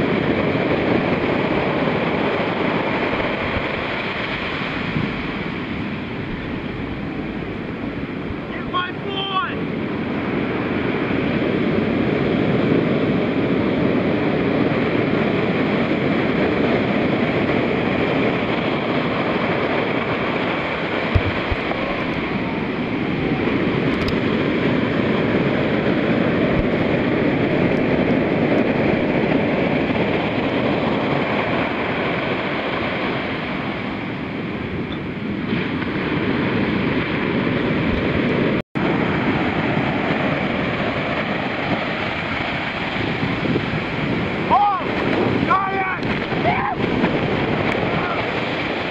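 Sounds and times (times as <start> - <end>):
surf crashing on sand: 0.0 - 48.9.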